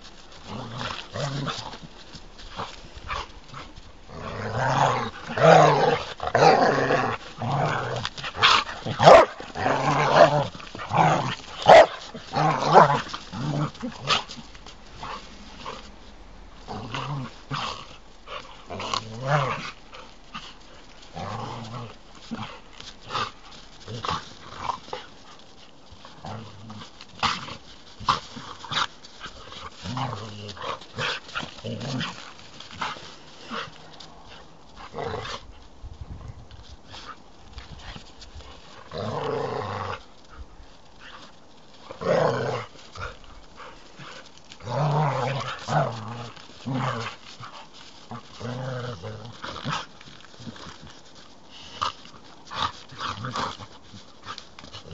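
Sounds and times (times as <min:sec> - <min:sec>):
dogs growling and snarling: 0:00.0 - 0:54.9.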